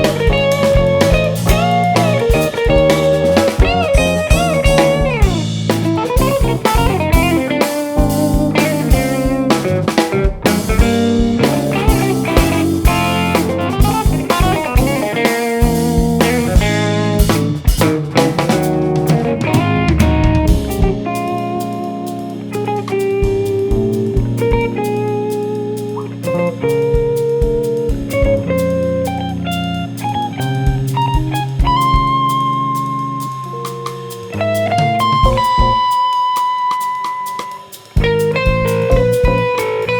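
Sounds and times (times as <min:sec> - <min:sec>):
bass: 0:00.0 - 0:36.0, 0:37.8 - 0:39.9
drum kit: 0:00.0 - 0:39.9
electric guitar: 0:00.0 - 0:39.9.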